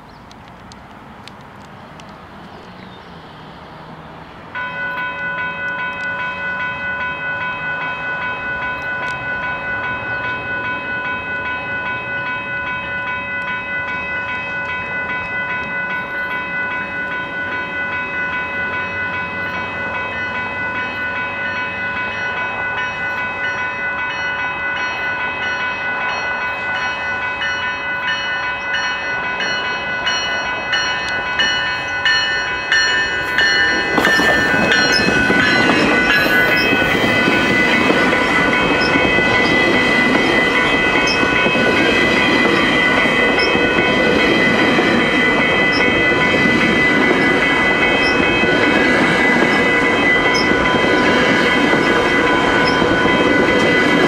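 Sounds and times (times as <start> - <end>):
approaching train: 0.0 - 54.0
level-crossing warning bell: 2.9 - 54.0.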